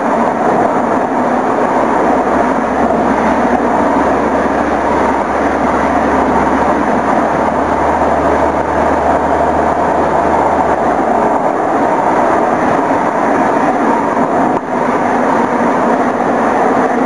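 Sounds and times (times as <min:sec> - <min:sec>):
low drone: 0:00.0 - 0:17.0
wind and road noise: 0:00.0 - 0:17.0.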